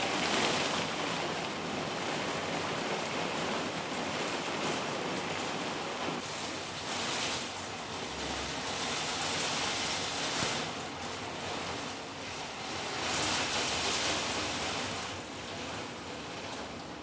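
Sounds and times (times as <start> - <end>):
heavy rain hiss: 0.0 - 16.7.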